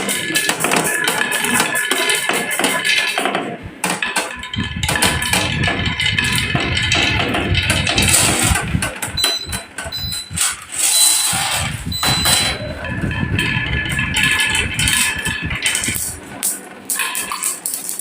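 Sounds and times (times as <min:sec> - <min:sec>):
marbles rolling on wooden track: 0:00.0 - 0:09.7, 0:10.7 - 0:18.0.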